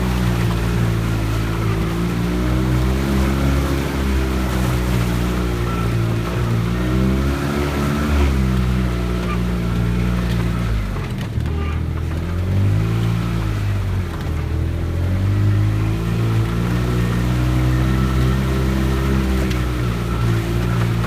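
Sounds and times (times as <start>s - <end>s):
engine revving: 0.0s - 21.0s.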